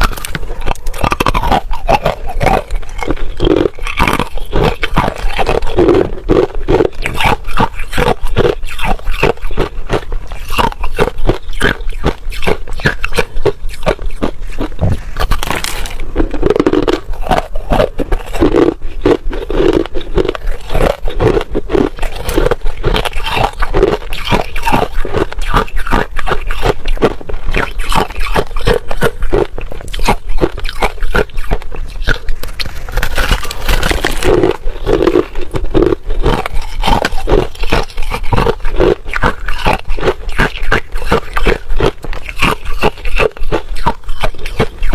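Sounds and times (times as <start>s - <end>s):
ice crunched between teeth: 0.0s - 44.9s.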